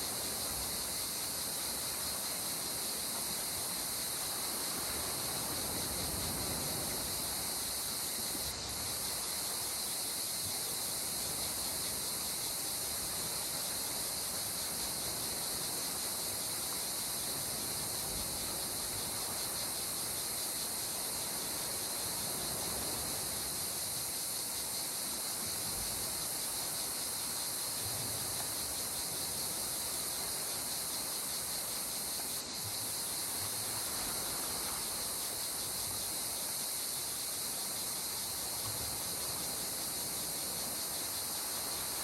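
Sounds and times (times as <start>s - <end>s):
gentle sea water hiss: 0.0s - 42.0s
insects chirring: 0.0s - 42.0s.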